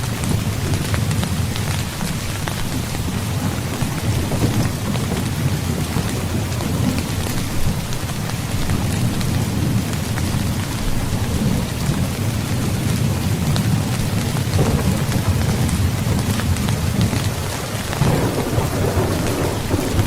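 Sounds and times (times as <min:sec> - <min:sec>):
heavy rain: 0:00.0 - 0:20.0
low rumble of thunder: 0:00.0 - 0:20.0
rain drop ticks: 0:00.0 - 0:20.0.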